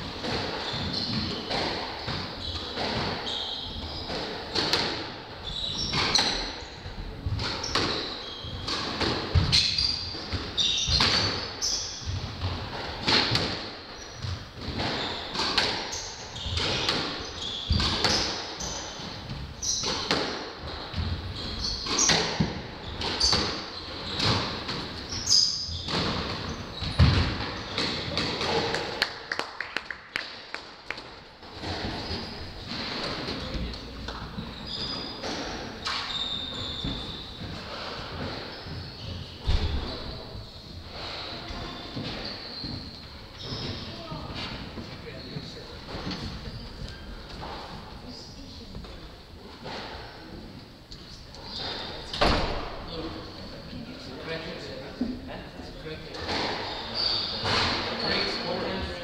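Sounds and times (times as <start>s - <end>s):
shoes squeaking on wooden floor: 0.1s - 28.8s, 31.4s - 50.4s, 51.0s - 55.1s, 55.8s - 59.0s.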